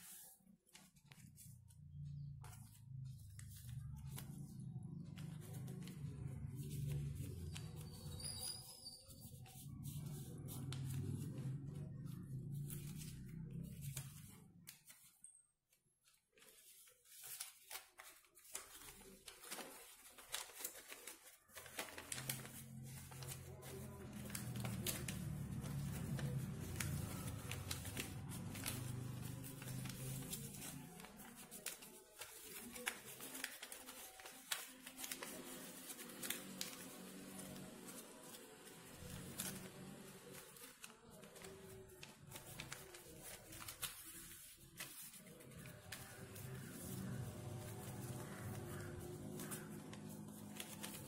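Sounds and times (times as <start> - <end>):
paper rustling and crinkling: 0.0 - 51.0.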